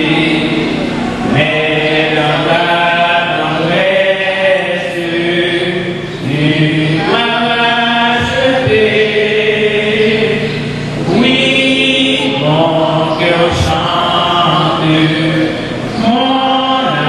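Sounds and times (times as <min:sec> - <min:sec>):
group singing a slow hymn: 0:00.0 - 0:17.0.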